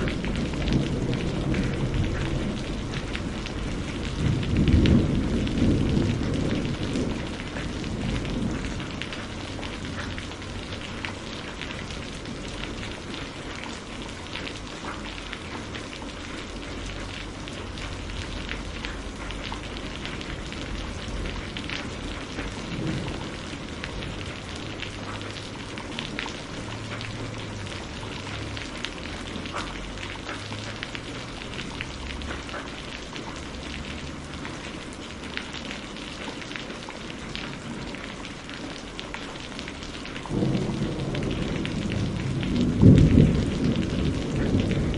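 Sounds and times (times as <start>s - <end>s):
low thunder rumble: 0.0s - 32.5s, 40.2s - 44.9s
rain falling: 0.0s - 44.9s
raindrops pattering on surface: 0.0s - 44.9s.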